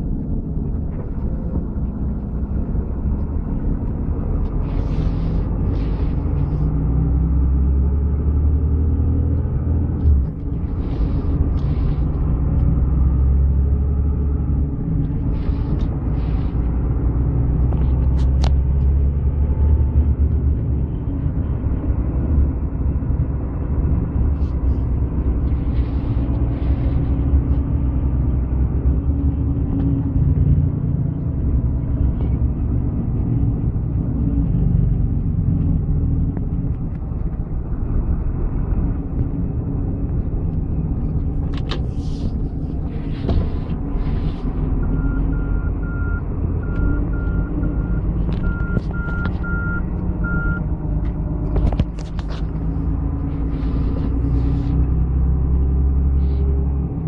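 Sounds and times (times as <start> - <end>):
road rumble: 0.0 - 57.0
vehicle engine drone: 0.0 - 57.0.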